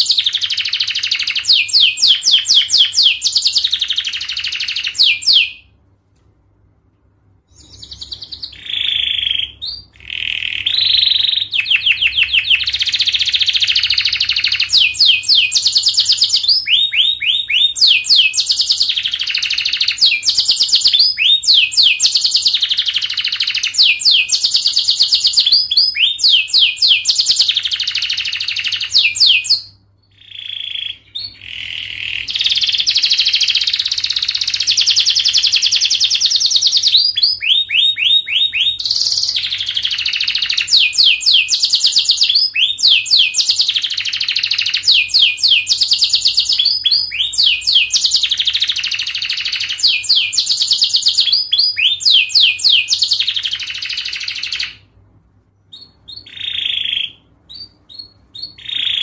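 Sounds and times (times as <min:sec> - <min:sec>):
canary singing trills: 0:00.0 - 0:05.8, 0:07.5 - 0:54.9, 0:55.6 - 0:59.0.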